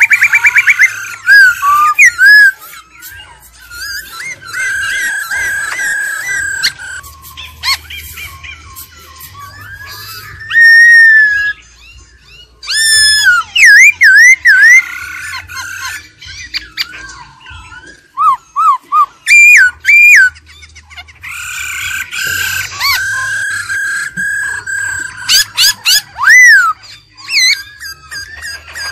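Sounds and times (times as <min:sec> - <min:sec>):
bird singing whistled phrases: 0:00.0 - 0:20.4, 0:21.2 - 0:28.9.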